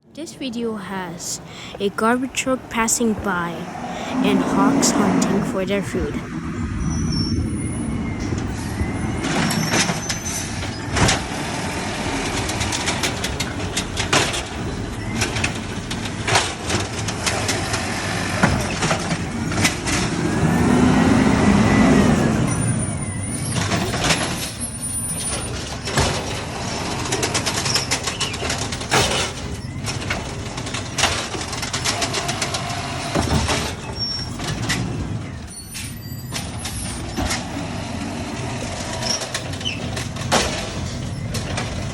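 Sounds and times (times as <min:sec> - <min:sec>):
garbage truck engine running: 0:01.0 - 0:41.9.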